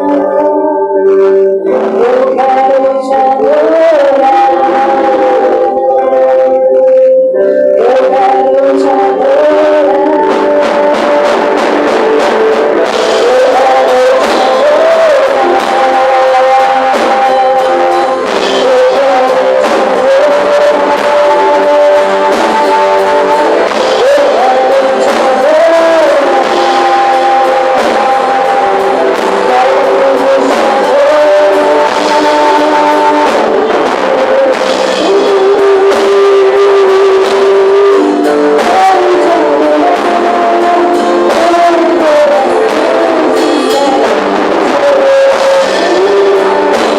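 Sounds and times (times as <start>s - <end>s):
guitar accompaniment: 0.0s - 46.9s
person singing: 0.0s - 46.9s.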